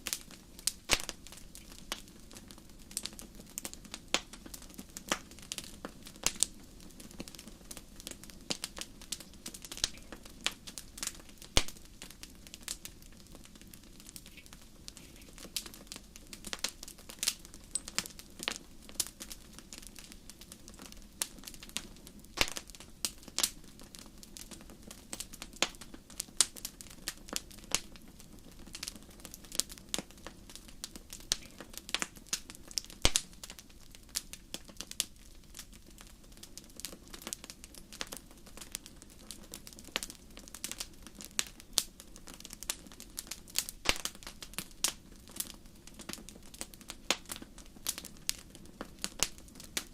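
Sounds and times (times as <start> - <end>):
campfire pops and snaps: 0.0 - 49.9.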